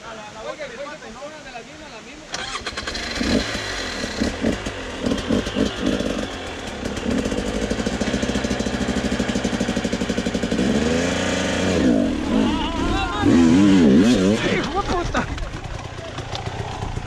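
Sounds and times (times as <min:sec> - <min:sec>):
motorcycle engine idling and revving: 0:02.3 - 0:17.0.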